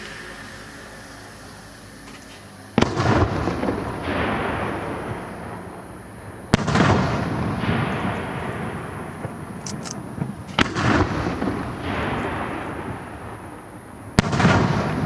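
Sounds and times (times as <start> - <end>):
rolling rumble: 0.0 - 15.0.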